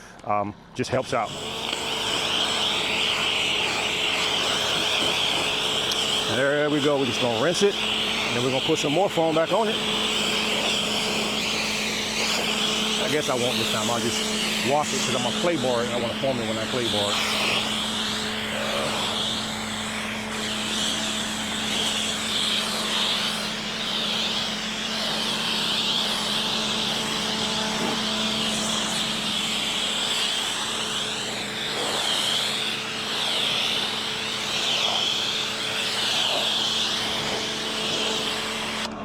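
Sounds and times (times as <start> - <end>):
pressure washer motor hum: 0.7 - 39.0
water spray hissing: 0.8 - 38.9.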